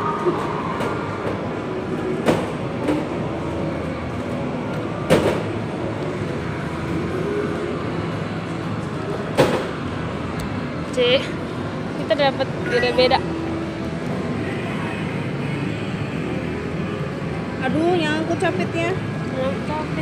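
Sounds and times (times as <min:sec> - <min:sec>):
amusement arcade din: 0:00.0 - 0:20.0.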